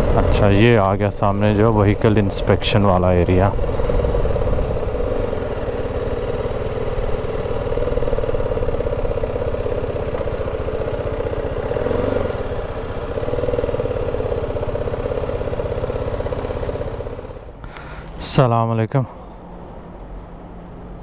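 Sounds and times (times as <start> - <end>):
motorcycle engine at low revs: 0.0 - 18.4.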